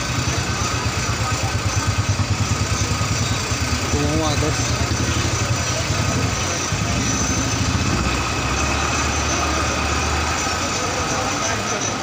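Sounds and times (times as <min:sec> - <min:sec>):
diesel bus engine: 0:00.0 - 0:12.0.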